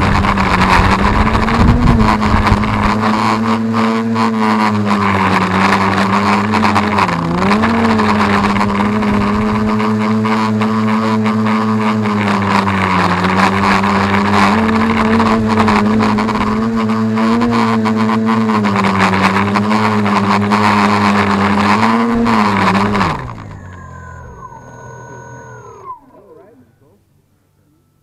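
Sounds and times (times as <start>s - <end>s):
motors winding down whine: 0.0s - 28.0s
quadcopter motors droning: 0.0s - 28.0s.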